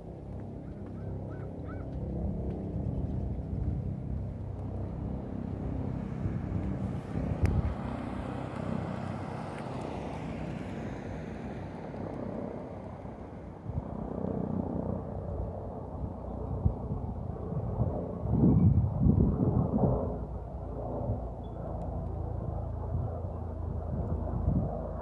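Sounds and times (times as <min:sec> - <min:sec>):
distant helicopter drone: 0:00.0 - 0:25.0.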